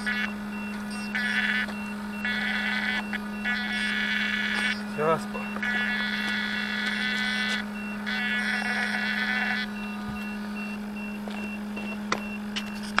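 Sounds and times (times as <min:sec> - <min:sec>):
high electronic whine: 0:00.0 - 0:13.0
short high beeps: 0:00.0 - 0:13.0
steady electrical hum: 0:00.0 - 0:13.0.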